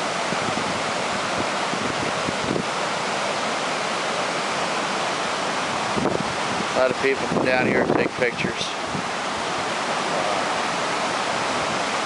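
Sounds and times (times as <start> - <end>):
wind buffeting microphone: 0.0 - 3.7, 5.4 - 12.0
water rushing over dam: 0.0 - 12.0.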